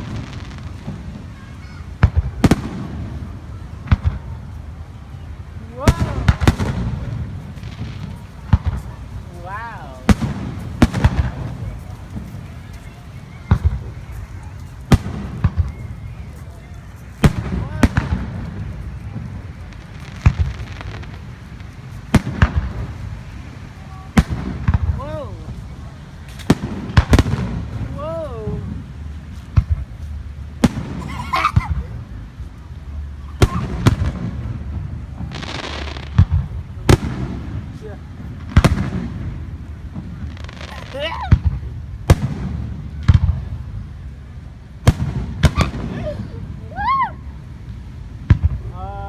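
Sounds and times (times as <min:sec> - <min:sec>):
fireworks bangs: 0:00.0 - 0:49.0
low rumble of fireworks: 0:00.0 - 0:49.0.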